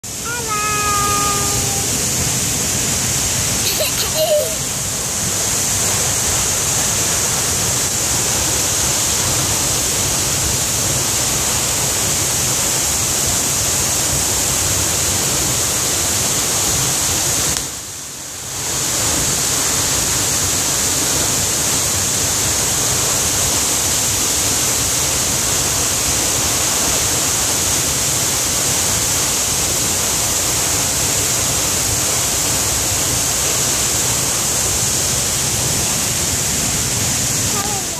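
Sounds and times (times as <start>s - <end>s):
waterfall crashing: 0.1s - 37.9s.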